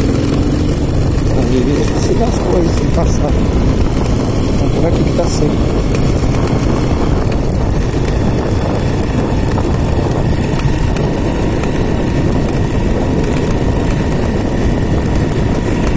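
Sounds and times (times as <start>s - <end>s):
dense low noise: 0.0s - 15.9s
motorcycle engine running: 0.0s - 15.9s.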